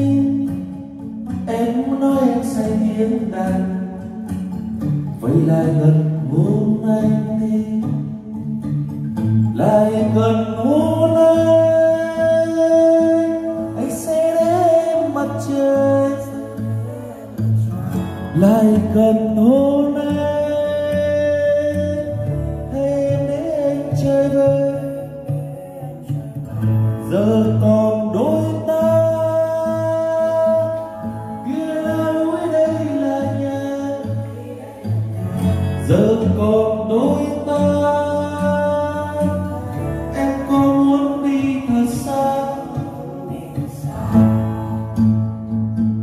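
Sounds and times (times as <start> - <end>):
man singing into a microphone: 0.0 - 4.3, 5.2 - 8.4, 9.5 - 45.1
backing music: 3.4 - 46.0.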